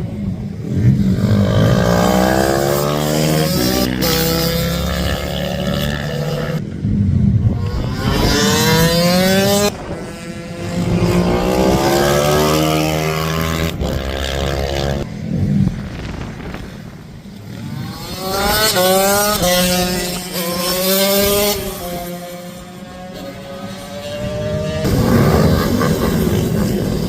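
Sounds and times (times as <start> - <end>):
minibike engines revving past: 0.6 - 6.6, 7.5 - 27.0.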